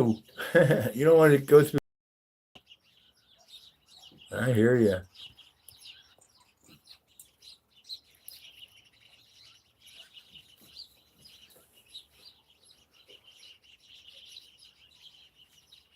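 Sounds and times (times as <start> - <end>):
small birds chirping: 0.0 - 1.8, 2.6 - 15.9.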